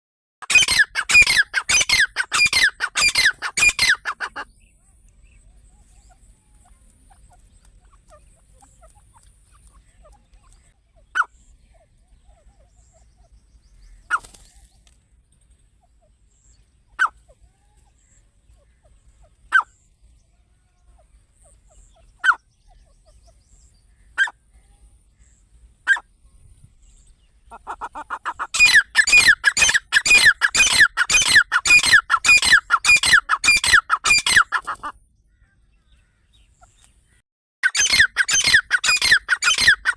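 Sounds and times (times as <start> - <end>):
partridge calling: 0.4 - 4.7, 5.3 - 14.6, 15.8 - 20.0, 20.9 - 24.6, 25.2 - 36.9, 37.6 - 39.9.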